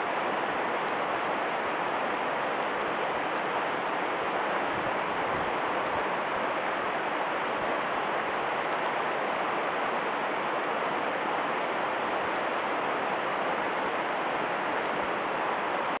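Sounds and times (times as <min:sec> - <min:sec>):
fast water flowing over rocks: 0:00.0 - 0:16.0.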